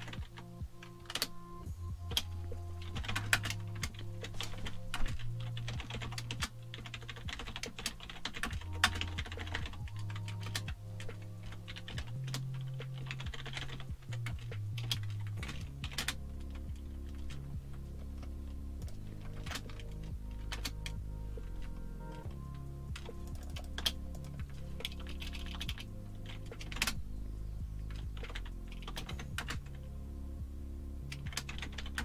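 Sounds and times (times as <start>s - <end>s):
typing on computer keyboard: 0.0s - 1.3s, 2.1s - 17.5s, 18.2s - 22.4s, 23.0s - 27.0s, 27.9s - 29.8s, 31.1s - 32.0s.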